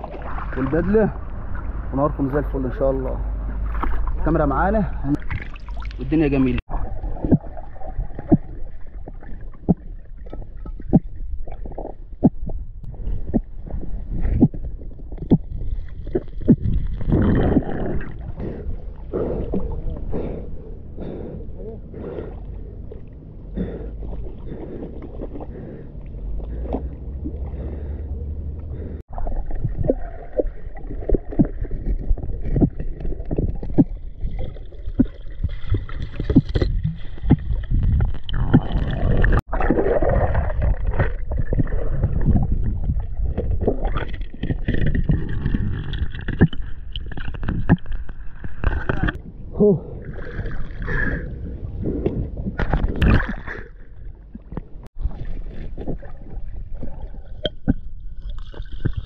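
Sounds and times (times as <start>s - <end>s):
muffled underwater sloshing: 0.0s - 59.0s.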